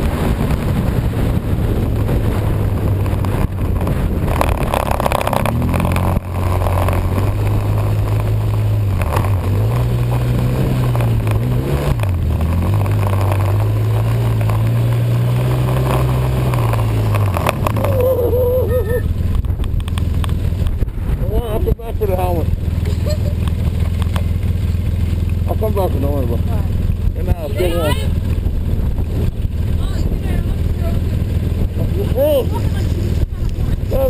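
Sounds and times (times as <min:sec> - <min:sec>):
snowmobile engine running: 0:00.0 - 0:34.0
steady rushing noise: 0:00.0 - 0:34.0.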